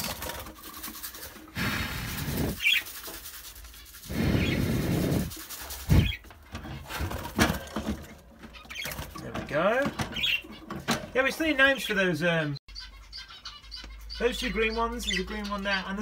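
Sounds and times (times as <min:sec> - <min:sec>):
cage birds chirping: 0:00.0 - 0:16.0.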